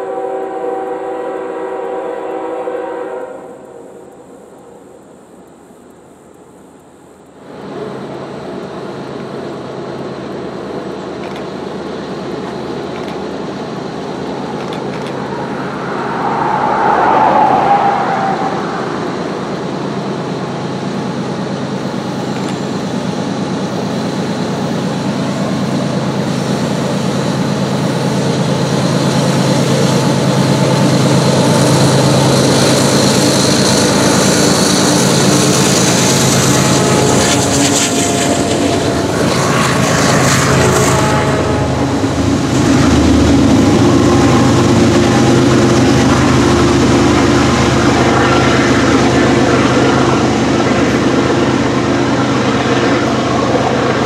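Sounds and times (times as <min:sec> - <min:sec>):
diesel locomotive engines: 0:00.0 - 0:54.0.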